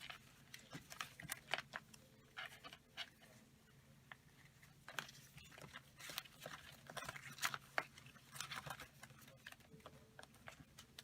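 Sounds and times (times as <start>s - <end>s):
paper rustling and clicking: 0.0s - 3.2s, 4.8s - 11.0s.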